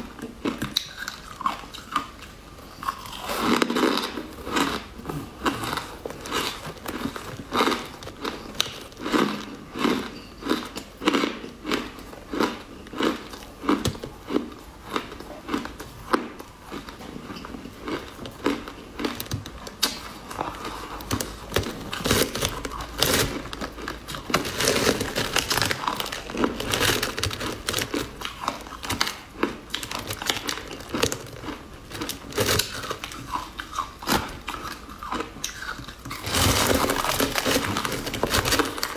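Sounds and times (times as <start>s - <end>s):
chewing and crunching hard sweet: 0.0s - 38.9s.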